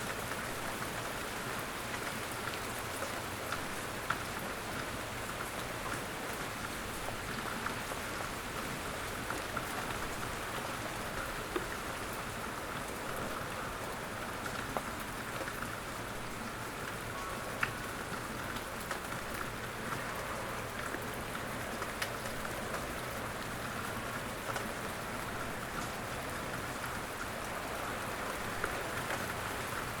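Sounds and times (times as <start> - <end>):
rain falling: 0.0 - 30.0
raindrops ticking on a surface: 0.0 - 30.0.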